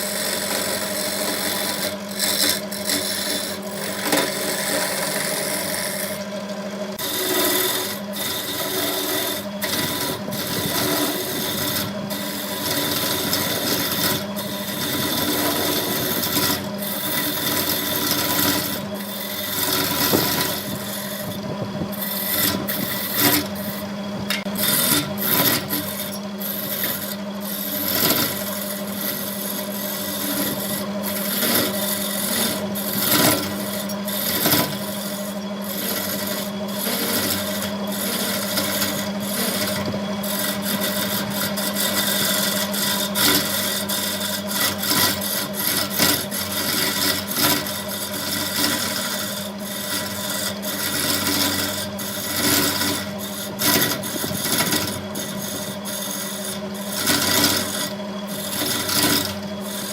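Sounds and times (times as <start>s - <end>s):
tool scraping spinning wood: 0.0s - 59.9s
wood lathe motor humming: 0.0s - 59.9s.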